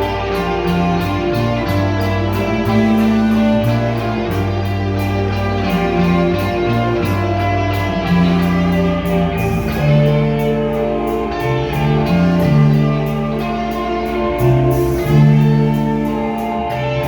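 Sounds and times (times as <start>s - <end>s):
instrumental music with bass line: 0.0s - 17.0s.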